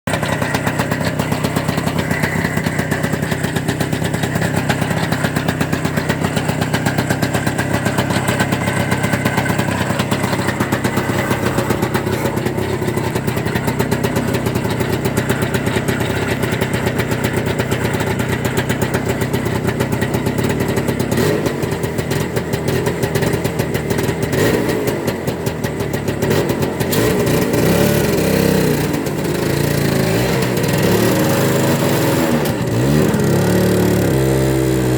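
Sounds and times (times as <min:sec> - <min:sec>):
scooter engine running: 0:00.0 - 0:34.9.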